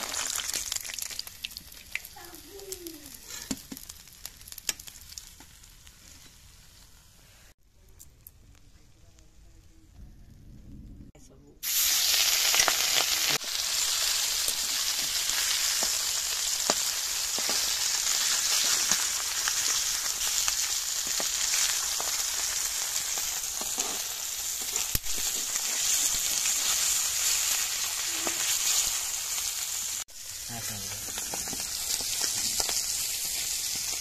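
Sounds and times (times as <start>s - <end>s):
fish sizzling in hot oil: 0.0s - 7.2s, 11.6s - 34.0s.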